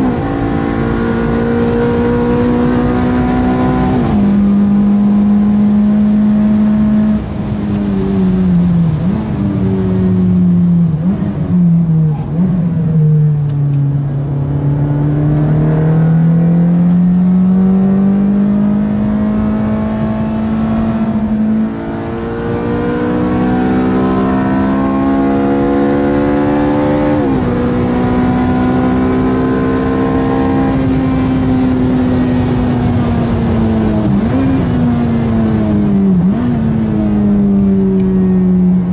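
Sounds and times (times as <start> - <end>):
sports car engine revving: 0.0 - 38.9.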